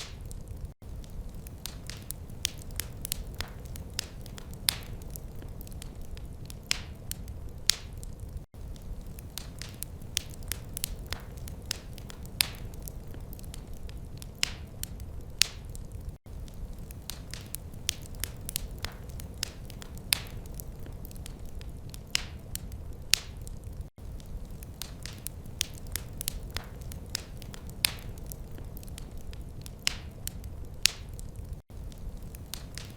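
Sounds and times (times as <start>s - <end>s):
wood fire crackling: 0.0s - 32.9s.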